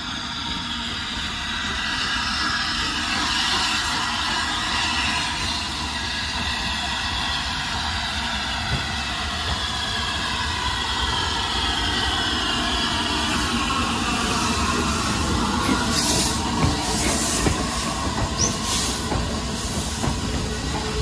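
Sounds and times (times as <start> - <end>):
steam exhaust hissing: 0.0 - 21.0
steam locomotive rumble: 0.0 - 21.0.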